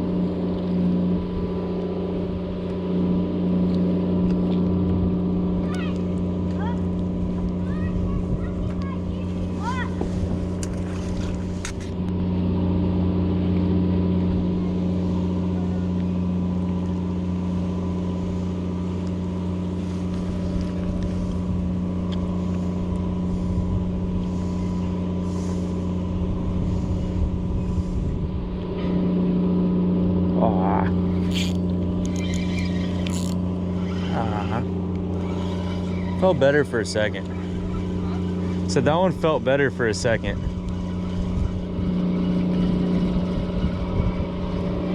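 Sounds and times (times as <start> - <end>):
engine running steadily: 0.0 - 44.9.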